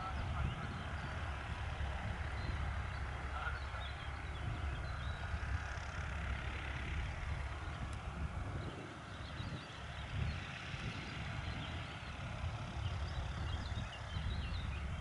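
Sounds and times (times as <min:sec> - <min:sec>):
distant propeller plane engine drone: 0:00.0 - 0:15.0.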